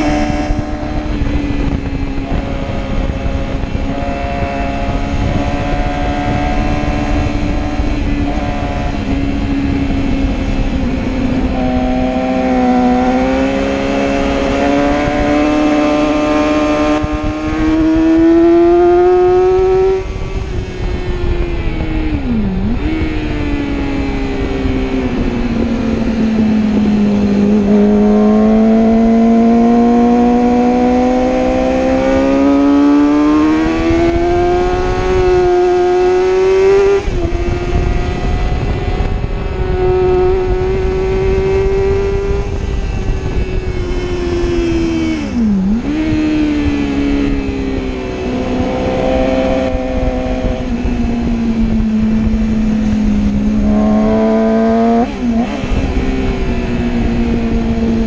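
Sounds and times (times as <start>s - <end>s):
motorcycle engine revving: 0.0s - 58.0s
wind rushing: 0.0s - 58.0s.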